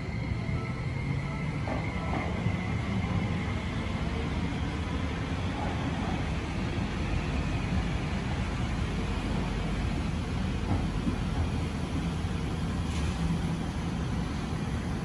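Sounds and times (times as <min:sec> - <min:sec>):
electric trains rumbling: 0:00.0 - 0:15.0.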